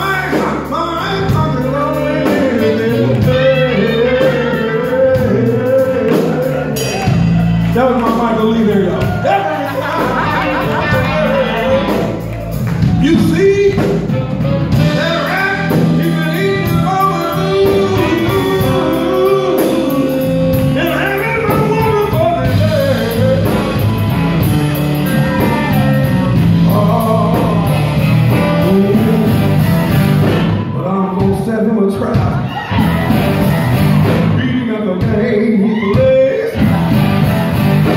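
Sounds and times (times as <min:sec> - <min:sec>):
man singing: 0:00.0 - 0:24.2, 0:25.0 - 0:32.8, 0:34.0 - 0:37.9
drums: 0:00.0 - 0:37.9
electric guitar: 0:00.0 - 0:37.9.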